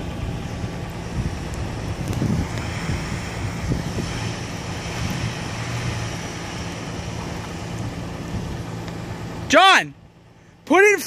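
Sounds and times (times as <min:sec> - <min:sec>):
wheels spinning in snow: 0:00.0 - 0:09.4
car engine running: 0:00.0 - 0:11.0.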